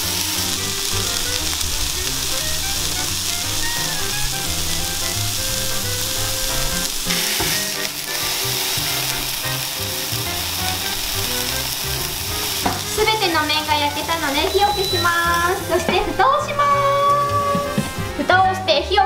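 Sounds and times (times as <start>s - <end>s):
meat sizzling in a frying pan: 0.0s - 18.1s
light background music: 0.0s - 19.0s.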